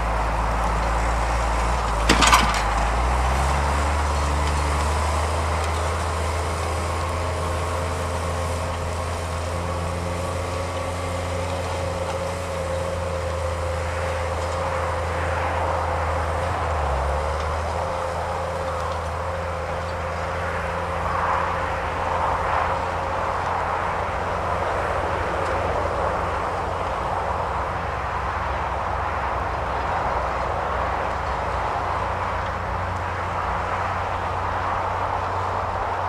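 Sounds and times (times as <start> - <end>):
tractor diesel engine under load: 0.0 - 36.0.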